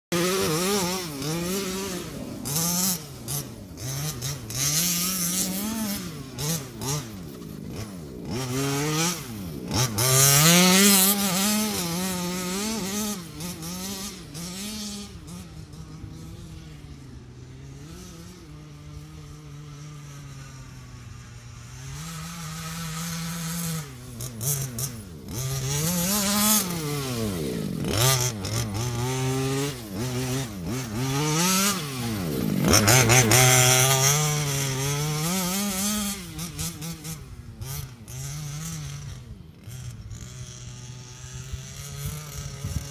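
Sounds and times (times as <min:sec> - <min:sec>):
model truck engine revving: 0:00.1 - 0:42.9.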